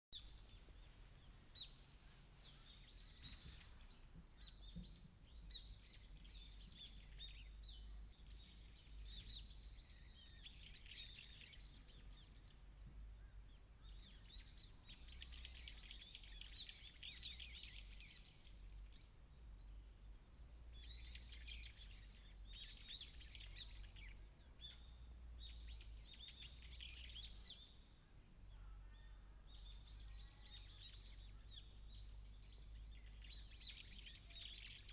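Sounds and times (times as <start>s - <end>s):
songbirds chirping: 0.2s - 34.9s.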